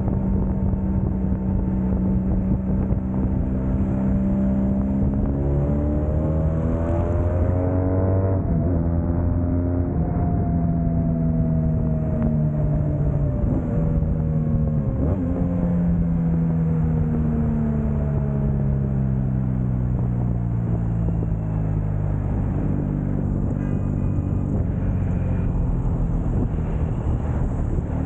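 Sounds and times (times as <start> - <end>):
motorcycle engine running: 0.0 - 5.8, 8.8 - 28.0.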